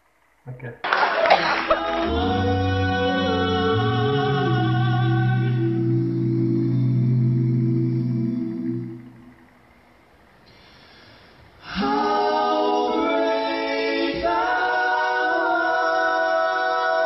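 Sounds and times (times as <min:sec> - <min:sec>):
a cappella group singing harmony: 0:01.3 - 0:09.8, 0:10.5 - 0:17.0.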